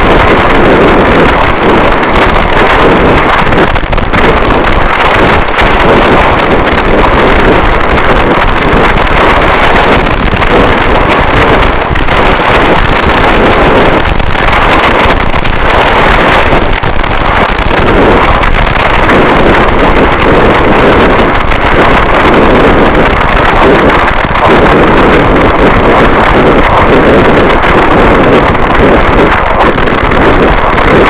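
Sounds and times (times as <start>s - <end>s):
distorted static noise wall: 0.0s - 31.0s.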